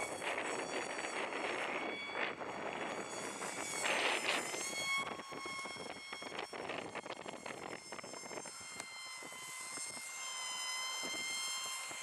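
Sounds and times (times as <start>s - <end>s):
high-pitched motor whine: 0.0s - 12.0s.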